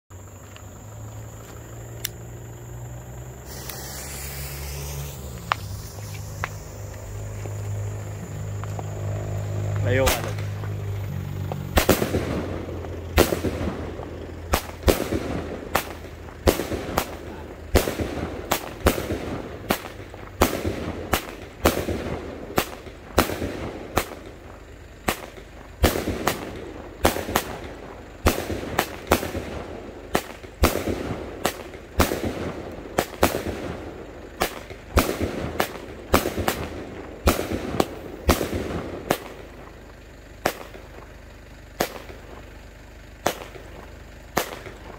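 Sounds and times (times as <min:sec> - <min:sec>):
fireworks firing sharp reports: 0:02.6 - 0:44.9.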